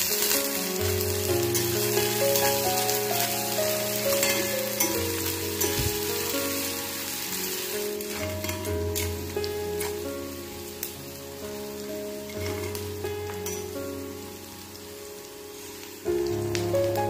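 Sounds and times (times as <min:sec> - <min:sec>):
onions sizzling in hot oil: 0:00.0 - 0:17.0
slow melodic background music: 0:00.0 - 0:17.0.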